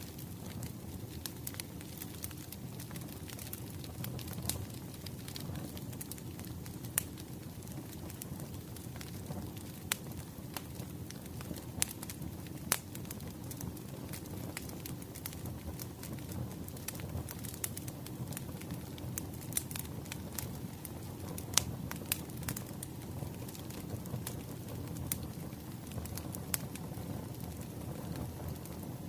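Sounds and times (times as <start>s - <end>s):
fire crackling and popping: 0.0s - 29.0s
wood fire rumbling: 0.0s - 29.0s.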